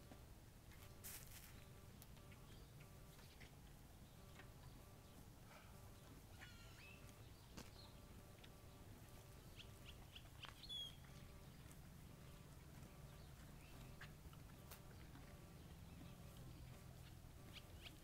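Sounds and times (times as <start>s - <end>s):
steady low hum: 0.0s - 18.0s
faint bird chirps: 1.5s - 18.0s.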